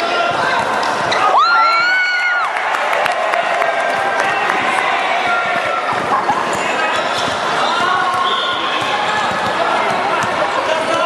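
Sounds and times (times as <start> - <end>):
basketball game noise in gym: 0.0 - 11.0.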